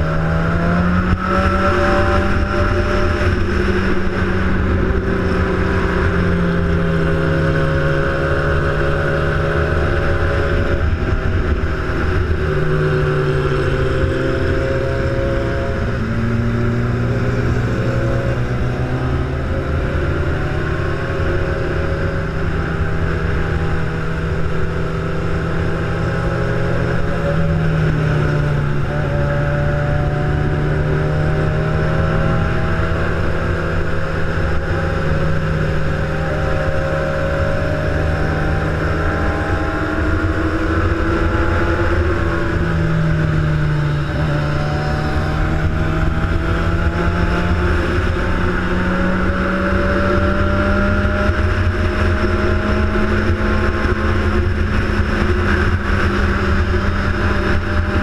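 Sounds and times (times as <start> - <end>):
low rumble of wind: 0.0 - 58.0
vehicle engine running: 0.0 - 58.0.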